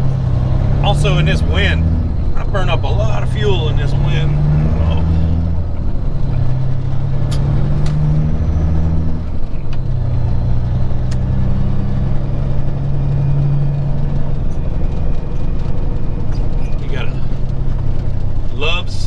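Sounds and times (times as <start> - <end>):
diesel truck engine running: 0.0 - 19.0
road and wind noise: 0.0 - 19.0.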